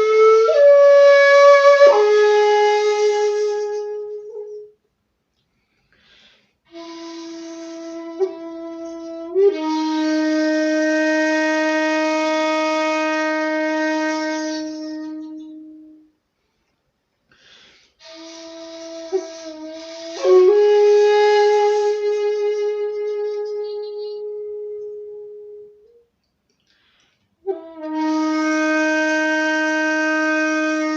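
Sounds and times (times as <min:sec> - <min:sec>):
breathy bamboo flute notes: 0:00.0 - 0:04.8, 0:06.1 - 0:16.2, 0:17.3 - 0:26.1, 0:26.7 - 0:30.9.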